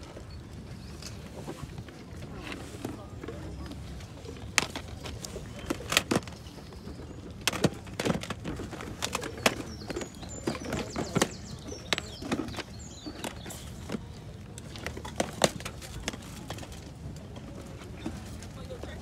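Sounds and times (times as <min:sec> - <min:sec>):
plastic cases clacking together: 0:02.5 - 0:19.0.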